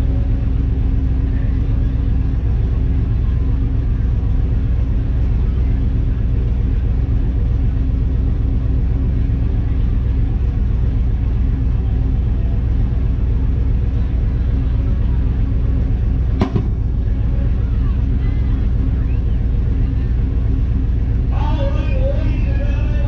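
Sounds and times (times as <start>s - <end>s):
race car engine idling: 0.0s - 23.0s.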